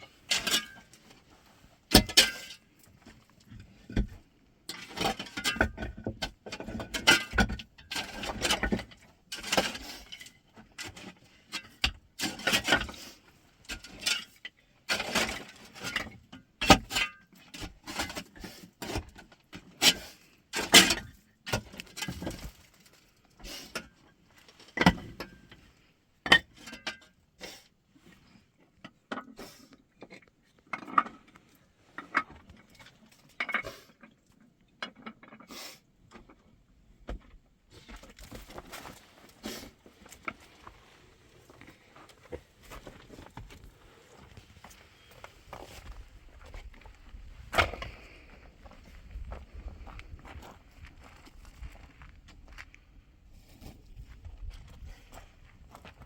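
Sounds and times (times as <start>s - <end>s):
objects clattering and scraping: 0.1s - 52.6s.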